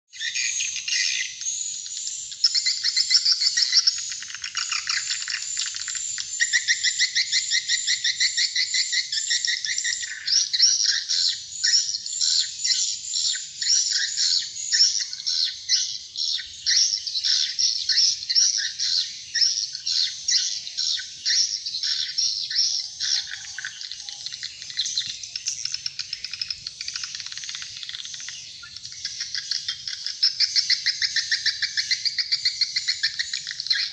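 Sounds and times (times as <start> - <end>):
rapid high bird chirps: 0.1 - 33.9.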